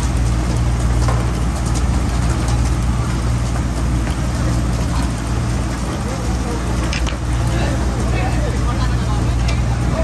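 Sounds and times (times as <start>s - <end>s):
boat engine humming: 0.0s - 10.0s
water noise: 0.0s - 10.0s
wind: 0.0s - 10.0s.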